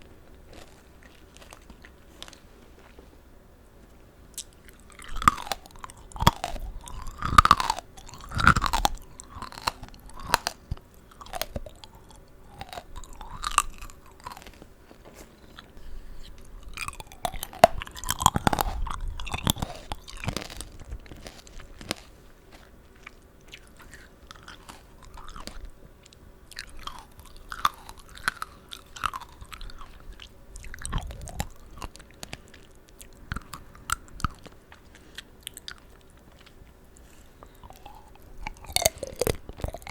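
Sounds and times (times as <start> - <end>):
moist chewing of fruit: 0.0 - 39.9
candy shell crunching: 0.2 - 3.0, 4.3 - 39.9.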